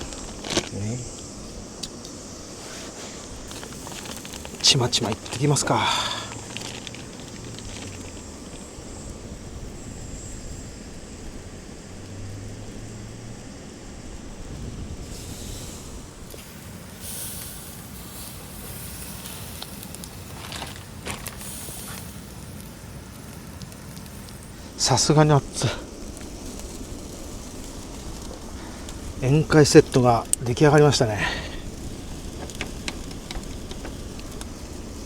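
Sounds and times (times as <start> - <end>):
meat sizzling over fire: 0.0 - 35.0.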